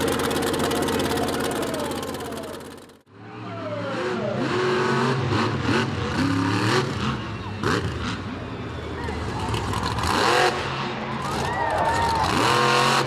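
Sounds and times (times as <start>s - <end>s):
truck engine revving: 0.0s - 3.1s, 3.8s - 13.0s.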